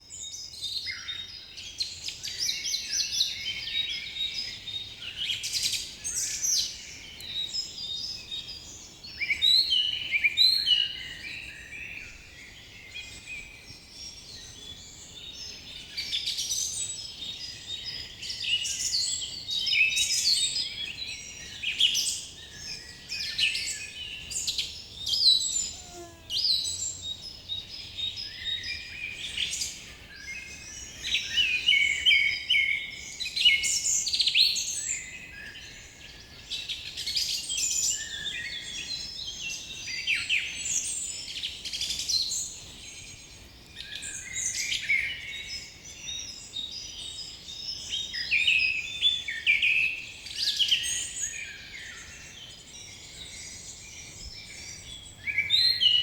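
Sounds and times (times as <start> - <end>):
forest birds chorus: 0.0 - 56.0.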